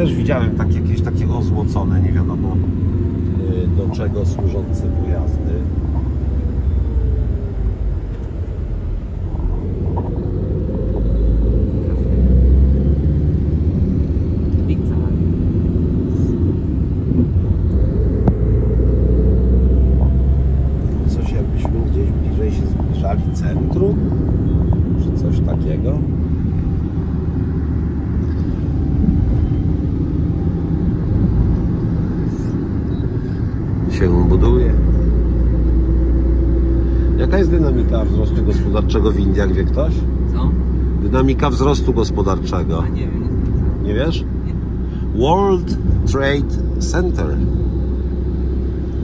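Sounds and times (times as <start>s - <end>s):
car engine and tyres rumbling: 0.0s - 49.0s.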